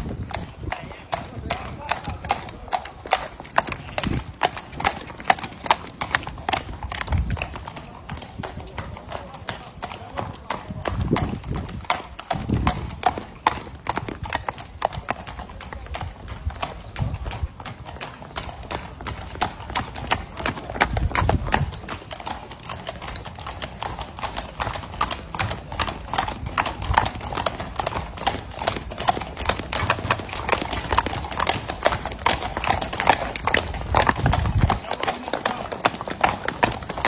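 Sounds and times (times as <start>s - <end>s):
horse hoofbeats clattering: 0.0s - 37.0s.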